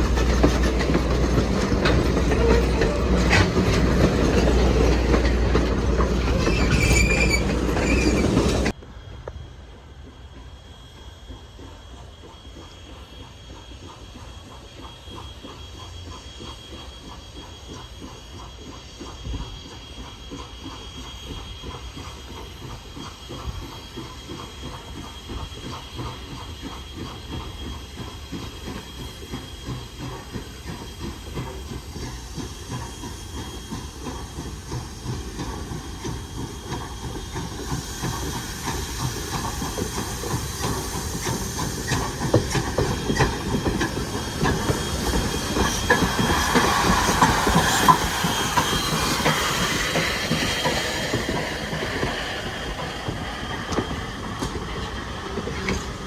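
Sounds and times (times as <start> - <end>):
train wheels clattering on track: 0.0 - 56.0.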